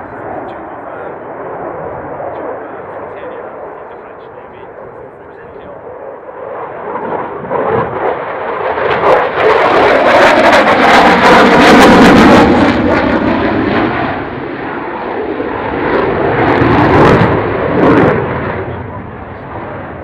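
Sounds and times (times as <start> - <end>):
fighter jet passing: 0.0 - 20.0.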